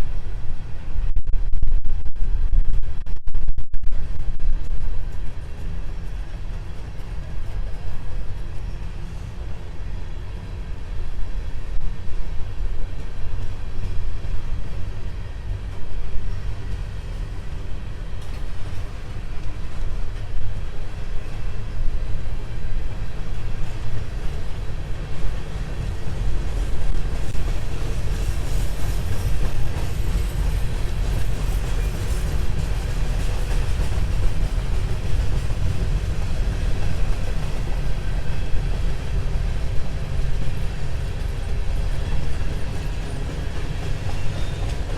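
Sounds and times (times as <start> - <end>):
train wheels rumbling on rail: 3.9 - 44.9.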